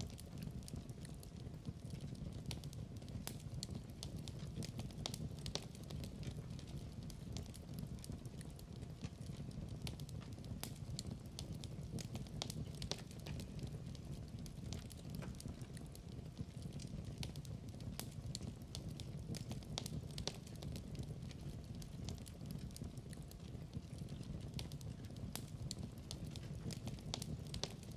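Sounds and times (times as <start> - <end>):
low rumble of flames: 0.0 - 27.9
wood fire crackling and popping: 0.0 - 27.9.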